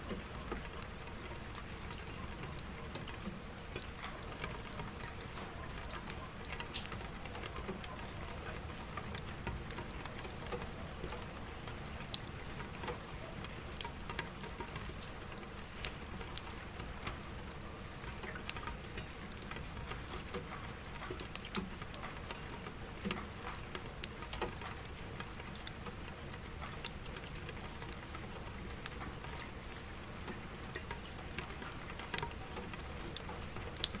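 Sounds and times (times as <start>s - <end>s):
drops ticking on a surface: 0.0s - 34.0s
rain pattering: 0.0s - 34.0s.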